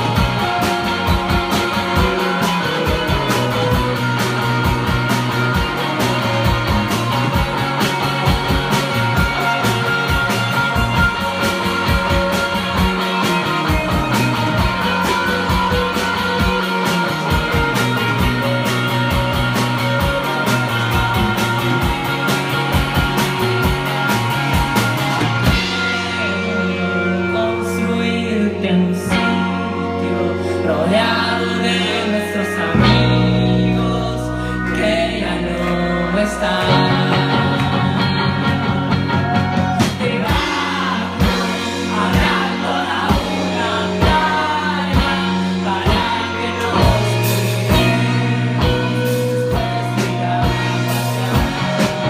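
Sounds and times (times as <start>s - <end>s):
steady drum beat: 0.0s - 26.8s, 36.6s - 52.0s
bass guitar: 0.0s - 52.0s
electric guitars: 0.0s - 52.0s.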